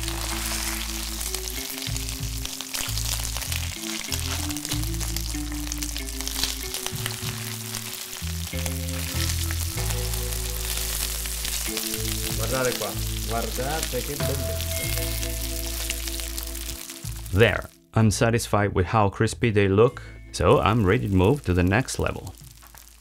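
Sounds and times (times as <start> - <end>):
pasta sizzling and crackling in pan: 0.0 - 17.3, 21.1 - 23.0
background music with bass line: 0.0 - 18.6.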